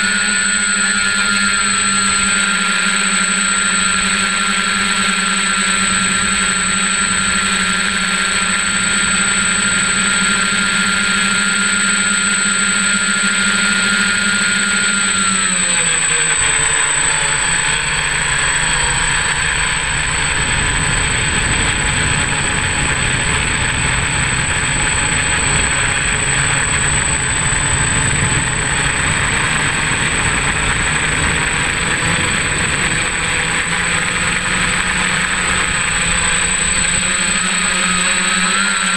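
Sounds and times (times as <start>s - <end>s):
drone propellers buzzing: 0.0s - 38.9s
high motor whine: 0.0s - 38.9s.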